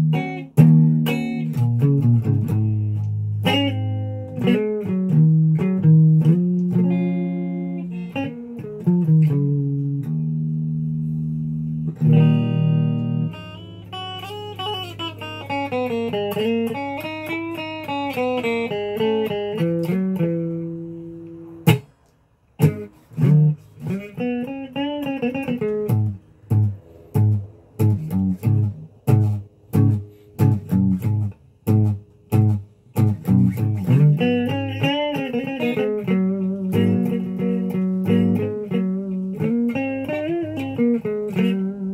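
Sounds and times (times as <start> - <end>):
electric guitar: 0.0 - 41.9.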